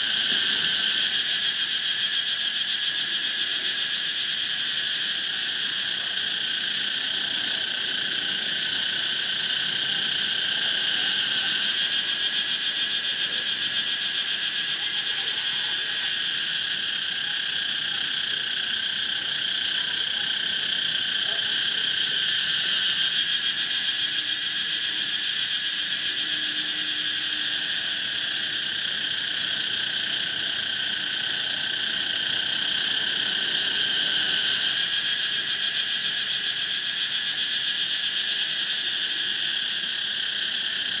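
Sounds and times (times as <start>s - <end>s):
cicada buzzing: 0.0s - 41.0s.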